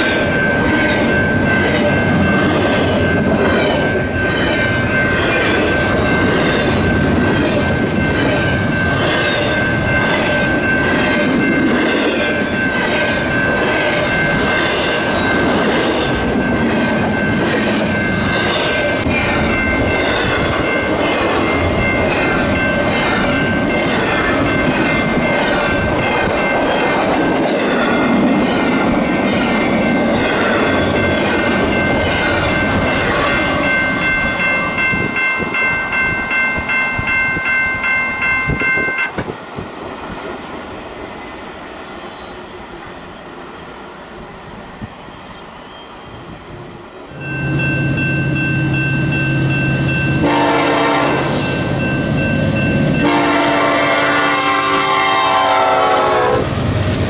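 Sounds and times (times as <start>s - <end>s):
crossing bell ringing: 0.0s - 39.3s, 47.0s - 56.4s.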